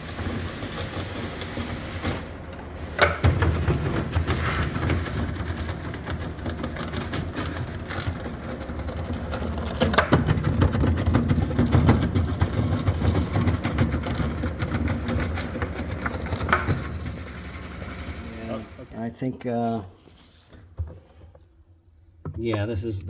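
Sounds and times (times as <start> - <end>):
washing machine rumbling and rattling: 0.0 - 19.1.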